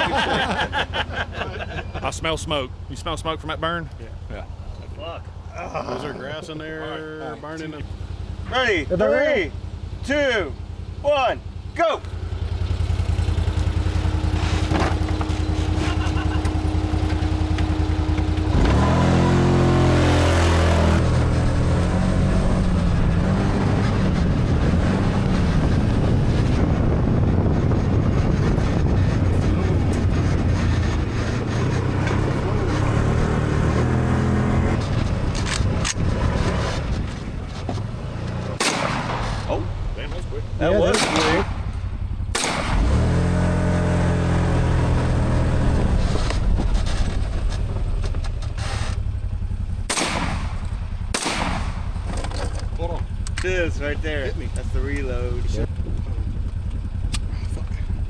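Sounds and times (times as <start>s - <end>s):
utility vehicle engine running: 0.0s - 58.0s.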